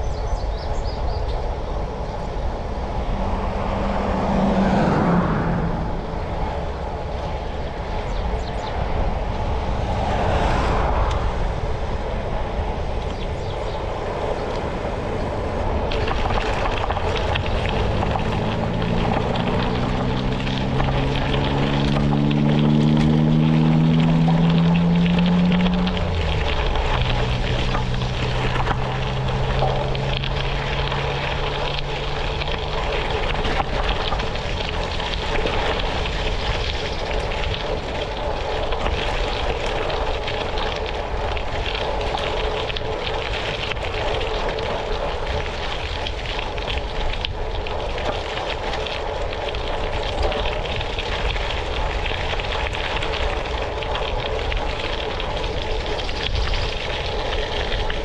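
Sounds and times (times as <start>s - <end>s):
low hum: 0.0s - 58.0s
wind noise: 0.0s - 58.0s
tyres rolling over gravel: 1.4s - 58.0s.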